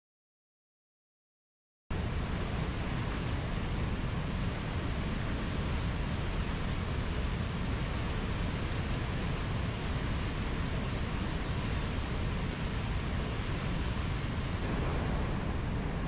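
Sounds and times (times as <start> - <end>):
waterfall rushing: 2.0 - 16.0.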